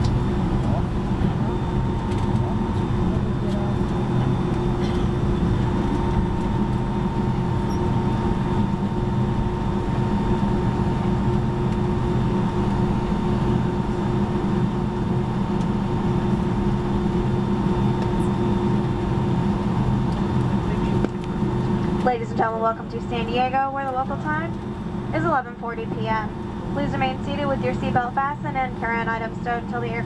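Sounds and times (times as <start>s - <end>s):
jet engines running low power: 0.0s - 30.0s
low hum of fixed tones: 0.0s - 30.0s.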